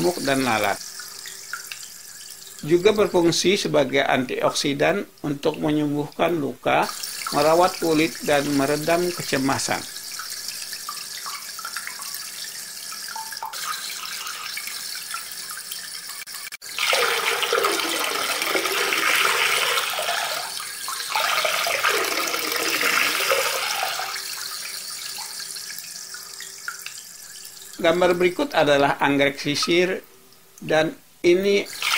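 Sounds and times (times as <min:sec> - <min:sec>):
running splashing water: 0:00.0 - 0:04.3, 0:05.2 - 0:30.0, 0:31.5 - 0:31.9.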